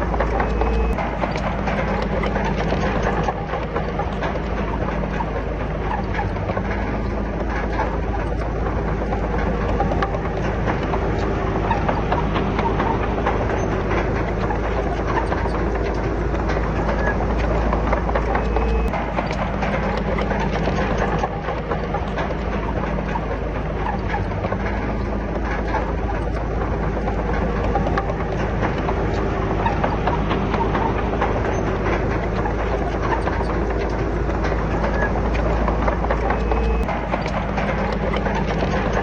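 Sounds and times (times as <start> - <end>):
bulldozer diesel engine running: 0.0 - 39.0
metallic track clatter: 0.0 - 39.0.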